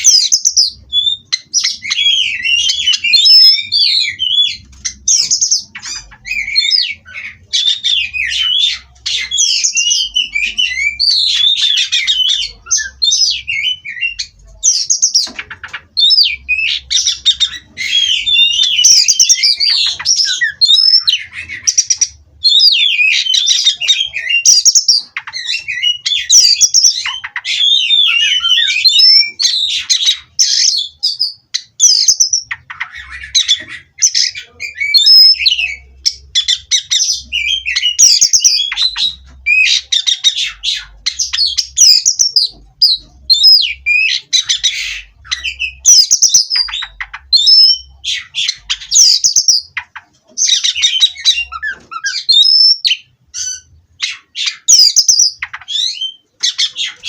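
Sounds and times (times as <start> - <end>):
bird singing whistles and trills: 0.0 - 57.0.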